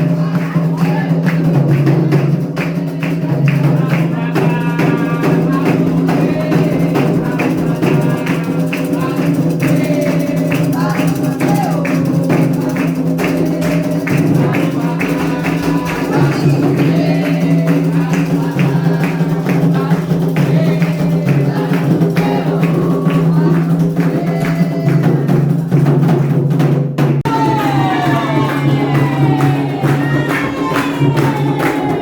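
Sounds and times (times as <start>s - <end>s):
people singing: 0.0s - 26.4s, 27.2s - 32.0s
hand drums beating: 0.0s - 32.0s.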